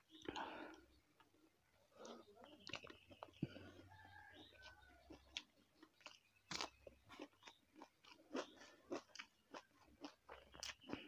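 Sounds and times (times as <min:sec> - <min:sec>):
chewing crunchy food: 0:00.0 - 0:11.0.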